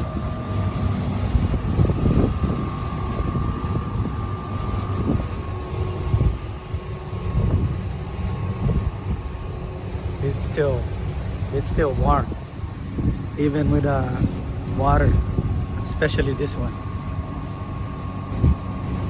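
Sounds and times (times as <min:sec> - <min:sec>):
condenser fans droning: 0:00.0 - 0:19.0
faint steady whine: 0:00.0 - 0:19.0.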